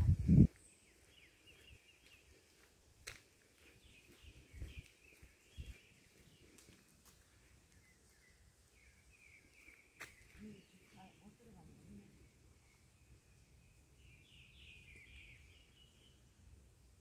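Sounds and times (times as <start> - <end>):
birds chirping: 0.3 - 17.0.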